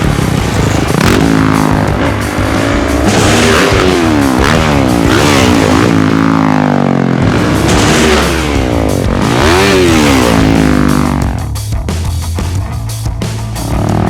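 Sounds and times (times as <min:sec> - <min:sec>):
dirt bike engine revving: 0:00.0 - 0:11.6, 0:13.5 - 0:14.0
background music: 0:00.0 - 0:14.0.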